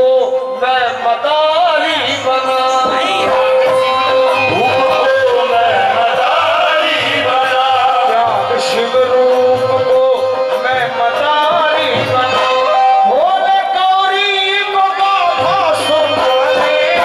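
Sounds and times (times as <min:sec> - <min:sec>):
harmonium chords: 0:00.0 - 0:17.0
man singing: 0:00.0 - 0:17.0
tabla beat: 0:00.0 - 0:17.0.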